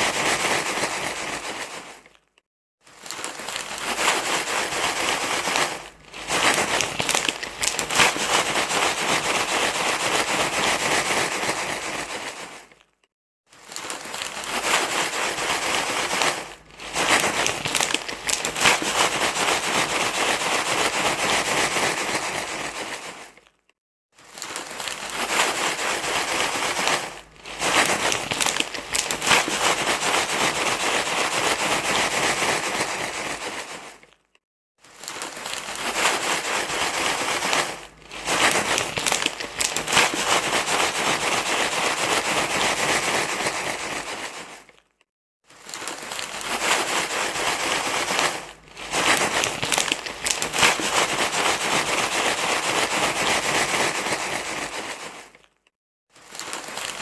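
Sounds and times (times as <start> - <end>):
material crinkling and rustling: 0.0 - 57.0.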